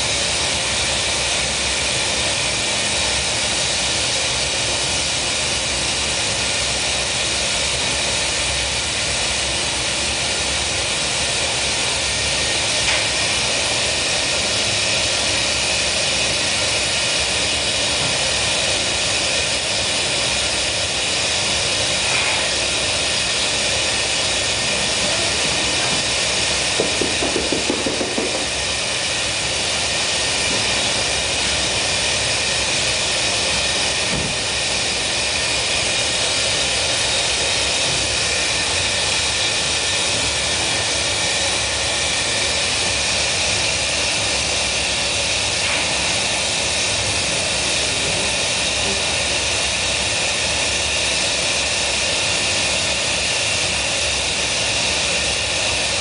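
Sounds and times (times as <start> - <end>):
gas burners rushing hiss: 0.0 - 56.0.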